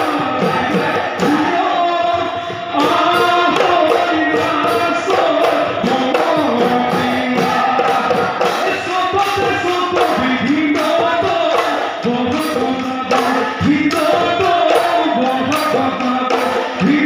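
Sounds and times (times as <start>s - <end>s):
drums beating steady rhythm: 0.0s - 17.0s
men singing in chorus: 0.0s - 17.0s.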